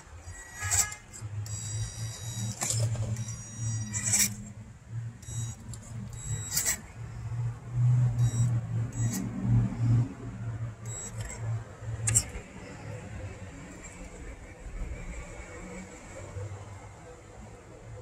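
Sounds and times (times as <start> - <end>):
electric drivetrain whining: 0.0 - 16.0.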